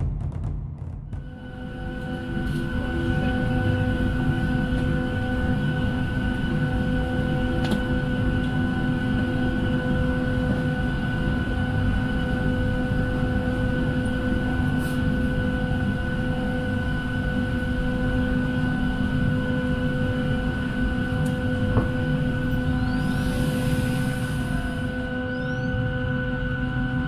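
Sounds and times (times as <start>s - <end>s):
aircraft cabin hum and whine: 0.0s - 27.0s.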